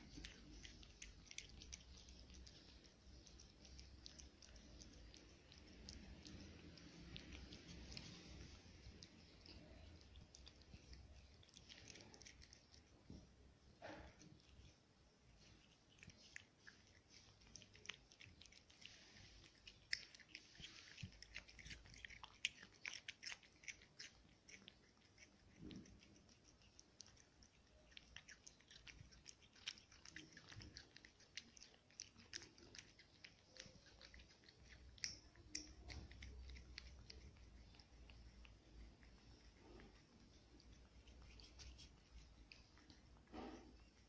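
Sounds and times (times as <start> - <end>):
cat chewing and licking: 0.0 - 44.0.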